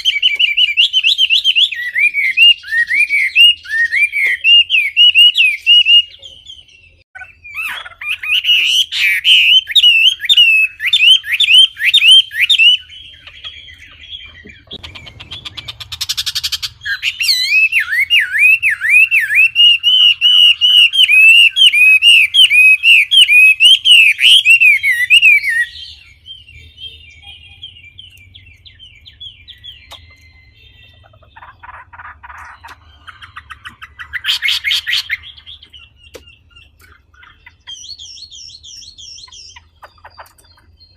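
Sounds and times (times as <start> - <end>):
songbird swooping chirps: 0.0 - 40.9.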